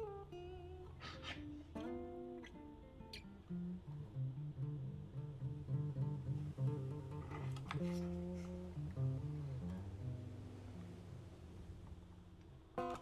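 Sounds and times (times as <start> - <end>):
plucked acoustic guitar music: 0.0 - 11.4, 12.8 - 13.0.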